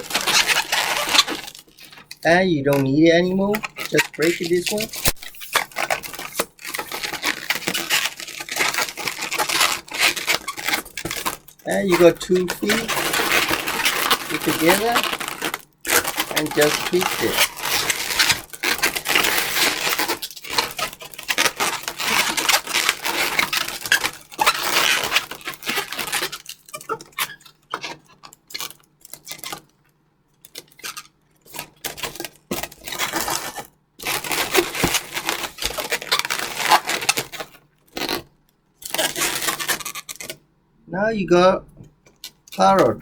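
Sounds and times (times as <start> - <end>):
balloons rubbing and rustling: 0.0 - 27.4, 32.6 - 40.4, 42.1 - 43.0.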